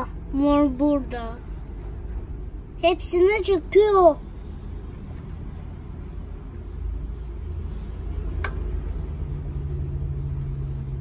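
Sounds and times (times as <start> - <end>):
engine rumbling nearby: 0.0 - 11.0
steady low hum: 0.0 - 11.0.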